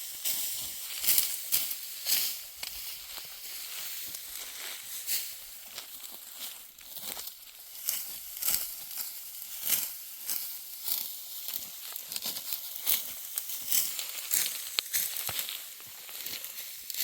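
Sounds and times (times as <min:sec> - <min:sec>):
dry rustle: 0:00.0 - 0:17.0
sickle cutting dry stalks: 0:00.0 - 0:17.0.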